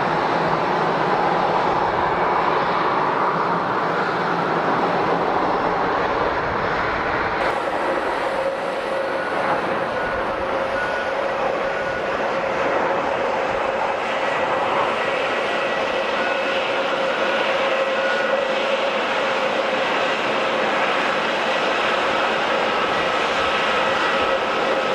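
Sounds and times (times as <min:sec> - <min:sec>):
jet engines running: 0:00.0 - 0:24.9.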